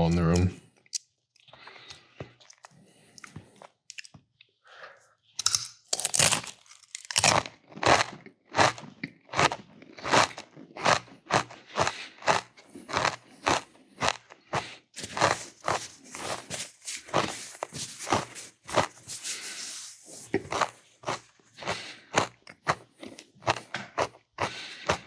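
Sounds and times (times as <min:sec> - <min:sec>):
crunchy food chewing: 0:01.4 - 0:04.1, 0:05.4 - 0:25.0.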